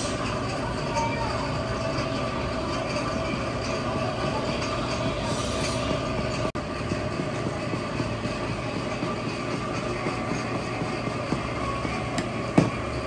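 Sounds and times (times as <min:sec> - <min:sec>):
steady mechanical rumble: 0:00.0 - 0:13.0.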